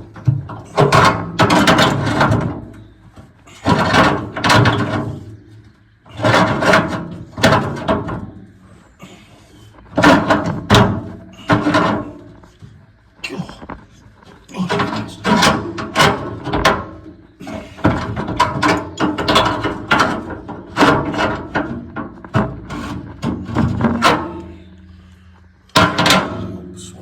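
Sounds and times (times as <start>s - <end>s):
hard objects clattering: 0.0s - 27.0s.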